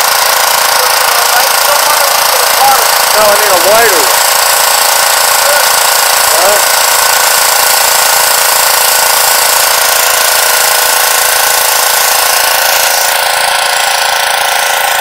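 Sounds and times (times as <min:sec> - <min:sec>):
pressure washer spraying: 0:00.0 - 0:15.0.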